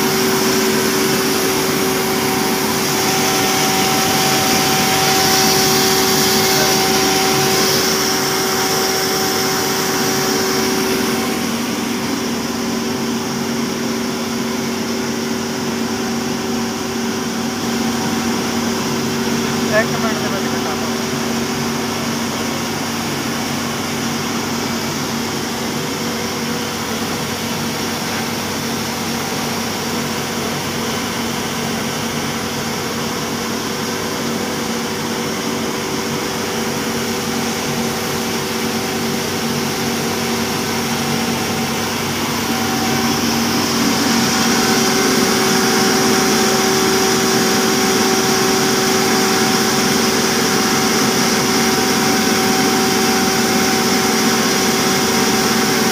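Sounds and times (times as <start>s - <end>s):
grinder machinery humming: 0.0s - 55.9s.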